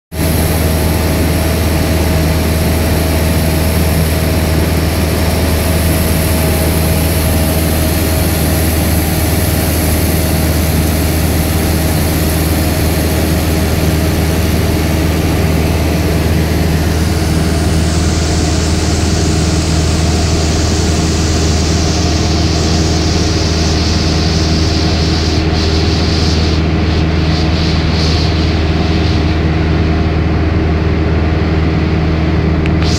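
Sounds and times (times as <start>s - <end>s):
small plane engine drone in cabin: 0.1s - 32.9s
rush of air: 2.0s - 30.6s.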